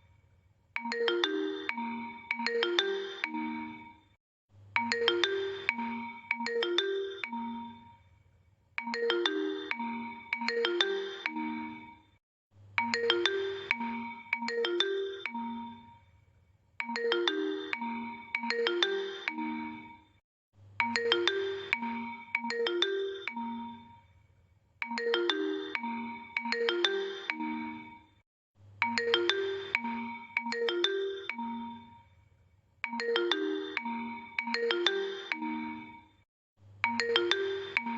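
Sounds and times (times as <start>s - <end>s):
marimba-like phone ringtone: 0.8s - 4.1s, 4.8s - 8.0s, 8.8s - 12.1s, 12.8s - 16.0s, 16.8s - 20.1s, 20.8s - 24.0s, 24.8s - 28.2s, 28.8s - 32.0s, 32.9s - 36.2s, 36.8s - 37.9s.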